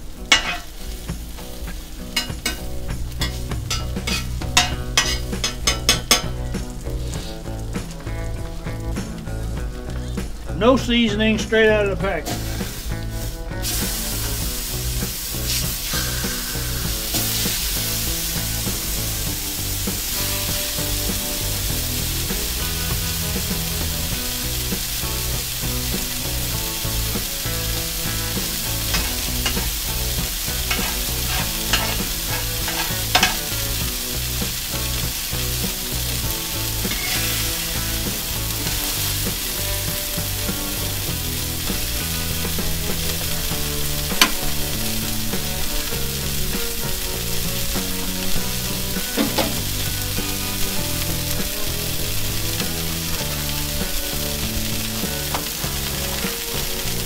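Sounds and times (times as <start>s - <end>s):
burger patties sizzling on griddle: 0.0s - 57.0s.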